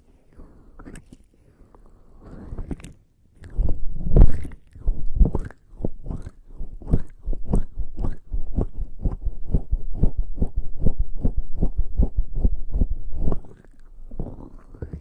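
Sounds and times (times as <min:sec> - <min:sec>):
wet skin rubbing on microphone: 0:02.3 - 0:15.0.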